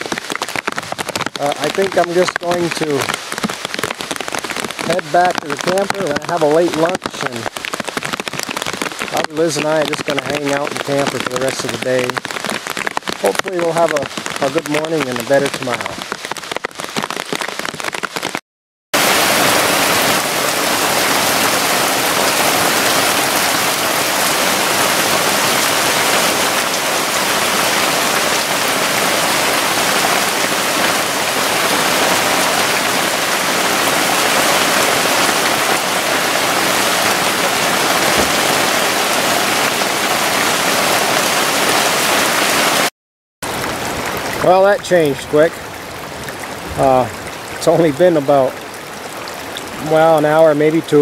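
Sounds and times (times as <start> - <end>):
heavy rain pouring: 0.0 - 18.4, 19.0 - 51.0.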